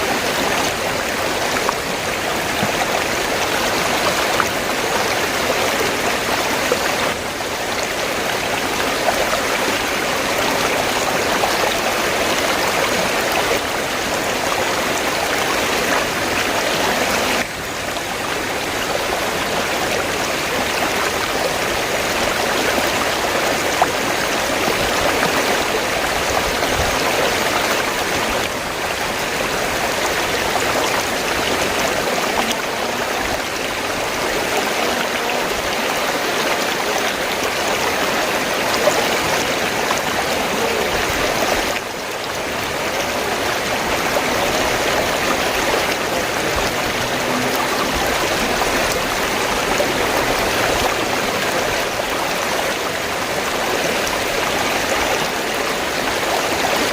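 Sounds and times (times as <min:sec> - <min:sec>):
river water rushing and babbling: 0:00.0 - 0:56.9.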